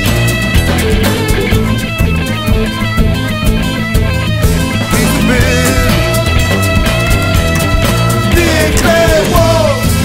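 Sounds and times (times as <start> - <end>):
electric guitar: 0.0 - 10.0
steady drum beat: 0.0 - 10.0.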